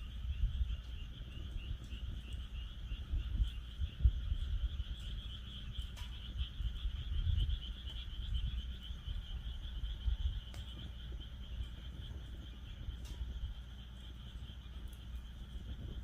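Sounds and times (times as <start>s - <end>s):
frogs trilling: 0.0s - 16.0s
low rumble: 0.0s - 16.0s
wood fire popping: 0.0s - 16.0s.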